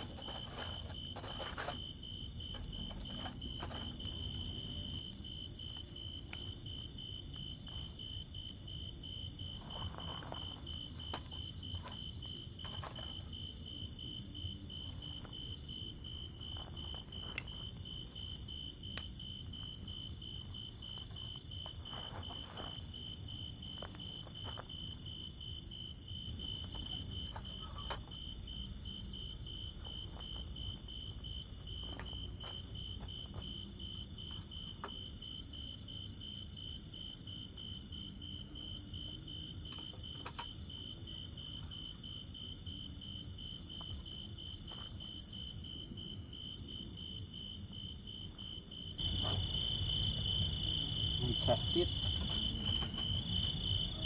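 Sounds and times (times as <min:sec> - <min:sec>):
high insect trills: 0:00.0 - 0:54.0
insects chirping: 0:00.0 - 0:54.0.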